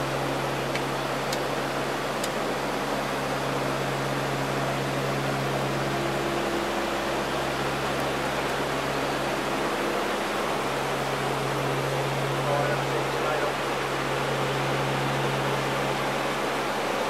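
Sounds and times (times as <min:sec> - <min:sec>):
low propeller tones: 0:00.0 - 0:17.0.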